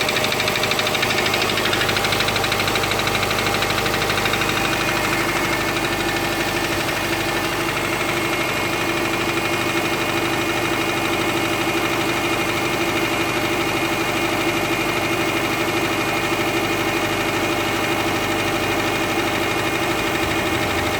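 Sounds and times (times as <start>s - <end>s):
car engine idling with knock: 0.0s - 20.9s.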